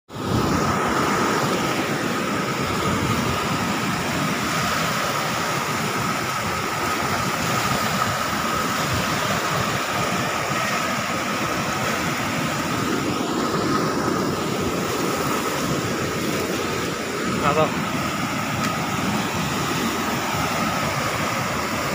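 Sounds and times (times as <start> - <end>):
floodwater rushing over a weir: 0.1 - 21.9.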